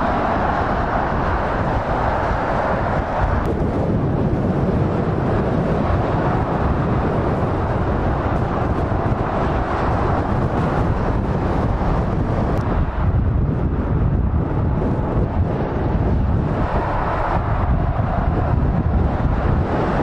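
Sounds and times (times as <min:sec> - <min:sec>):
motorway traffic: 0:00.0 - 0:20.0.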